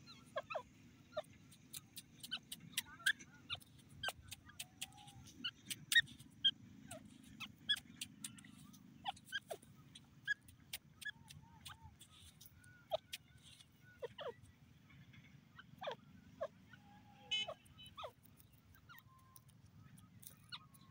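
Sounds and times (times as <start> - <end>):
francolin chirping and clicking: 0.0 - 14.6, 15.2 - 20.9.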